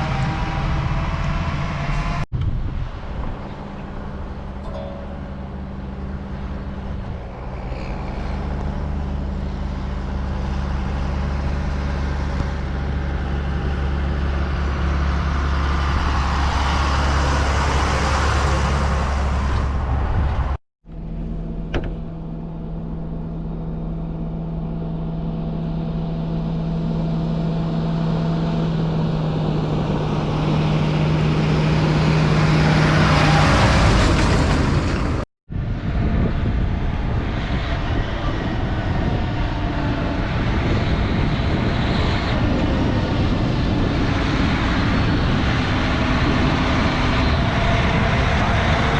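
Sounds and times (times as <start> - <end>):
farm machinery engine drone: 0.0 - 20.2, 20.9 - 48.9
road noise: 0.0 - 48.9.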